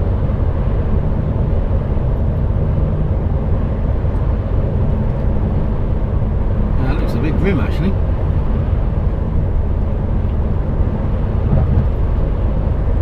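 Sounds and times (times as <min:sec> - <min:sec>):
lorry engine and tyre noise: 0:00.0 - 0:13.0.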